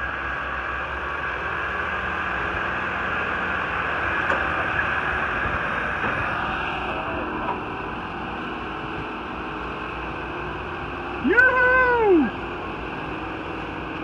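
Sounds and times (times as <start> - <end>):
vehicle running: 0.0 - 14.0.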